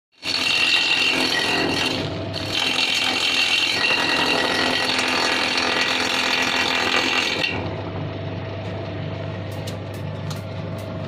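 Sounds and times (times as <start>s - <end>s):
low machine hum: 0.5s - 11.0s.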